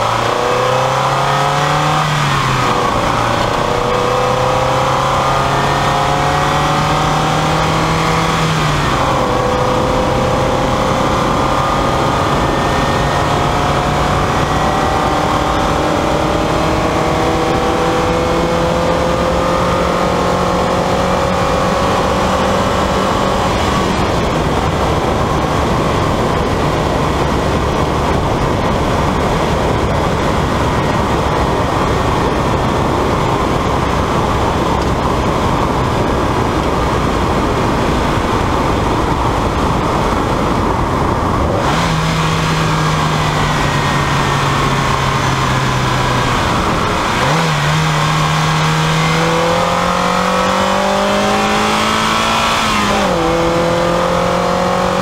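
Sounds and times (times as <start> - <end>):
car engine accelerating: 0.0 - 55.0
wind and tyre noise: 0.0 - 55.0.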